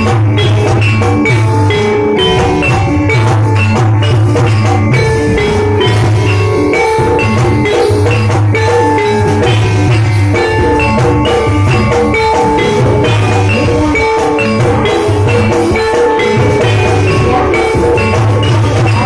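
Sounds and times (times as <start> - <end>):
drums: 0.0 - 19.0
metal mallet percussion melody: 0.0 - 19.0.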